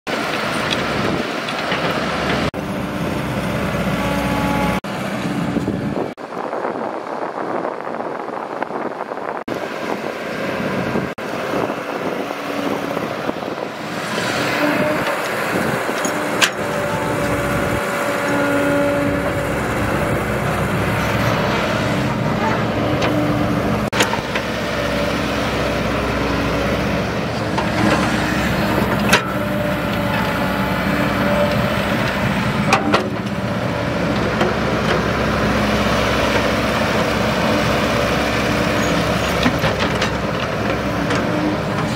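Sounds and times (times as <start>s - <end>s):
diesel engines at work: 0.1s - 41.9s.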